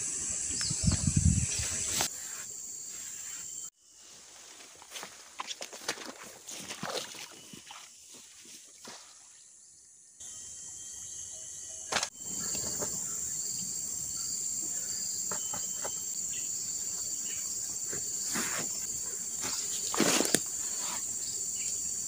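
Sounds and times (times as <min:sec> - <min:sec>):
jungle insects buzzing: 0:00.0 - 0:05.8, 0:09.1 - 0:22.0.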